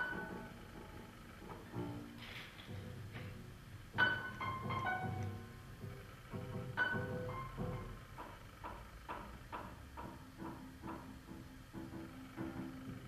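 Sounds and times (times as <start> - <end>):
jazz piano playing: 0.0 - 8.6, 9.4 - 13.0.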